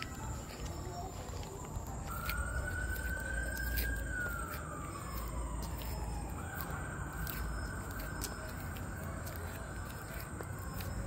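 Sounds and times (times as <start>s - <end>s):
siren wailing: 1.1s - 11.0s.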